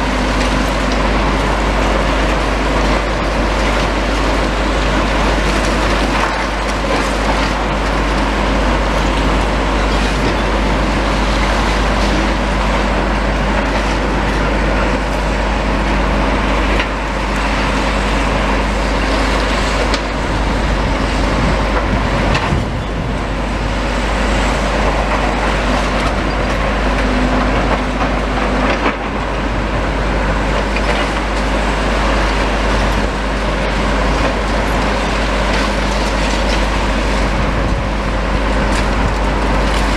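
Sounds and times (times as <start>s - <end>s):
demolition machine engine drone: 0.0s - 39.9s.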